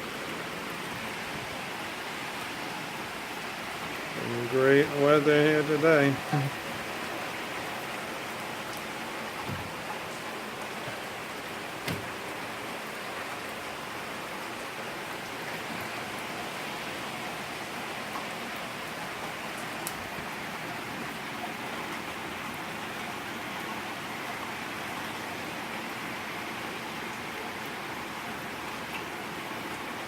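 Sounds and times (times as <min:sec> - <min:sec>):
rain pattering on surfaces: 0:00.0 - 0:30.0.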